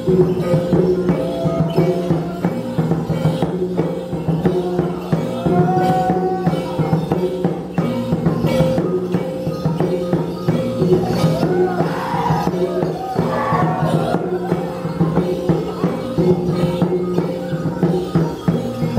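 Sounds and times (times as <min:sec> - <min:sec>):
drum beat: 0:00.0 - 0:18.9.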